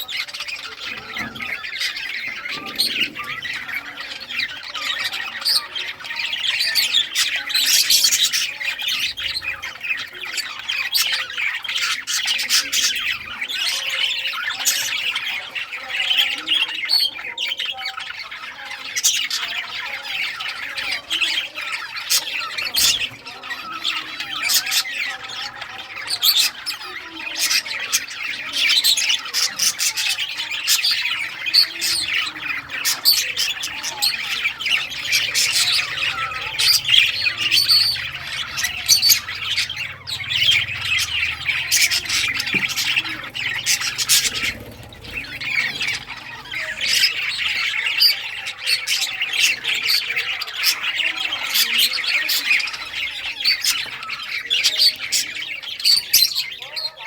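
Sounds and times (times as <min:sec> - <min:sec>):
budgerigars chirping: 0:00.0 - 0:57.0.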